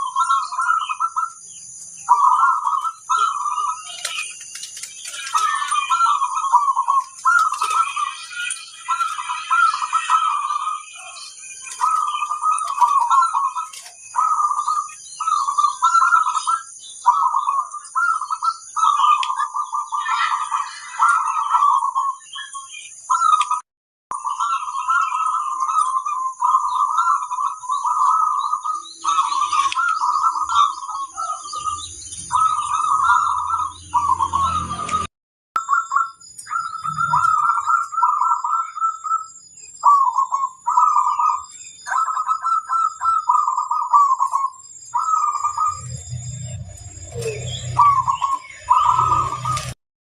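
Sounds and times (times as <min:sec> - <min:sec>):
doves cooing: 0:00.0 - 0:01.4, 0:02.1 - 0:23.6, 0:24.2 - 0:39.2, 0:39.8 - 0:49.8.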